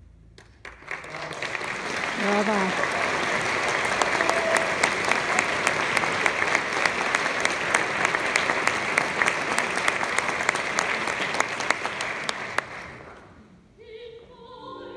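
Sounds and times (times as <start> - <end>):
audience applauding: 0.4 - 13.3.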